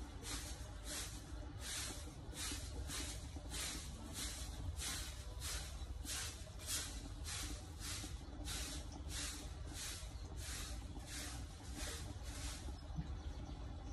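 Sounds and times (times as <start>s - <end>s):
stick broom sweeping artificial grass: 0.0s - 12.9s.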